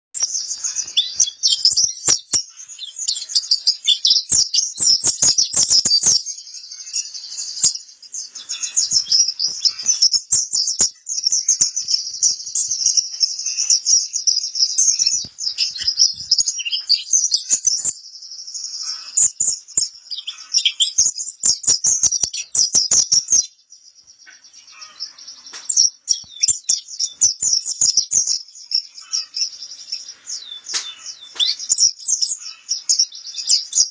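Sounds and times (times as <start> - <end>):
bird twittering song: 0.2 - 33.9.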